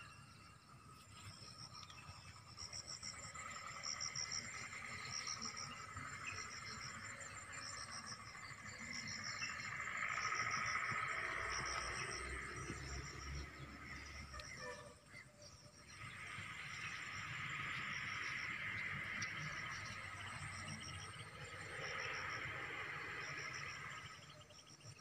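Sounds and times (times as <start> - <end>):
high pulsed cricket chirp: 0.0 - 25.0.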